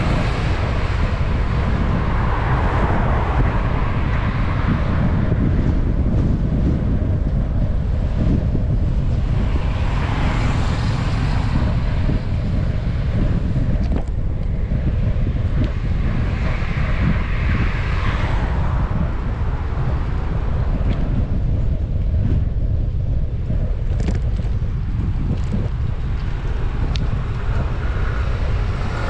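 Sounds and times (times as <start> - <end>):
cars passing: 0.0 - 29.0
wind buffeting microphone: 0.0 - 29.0.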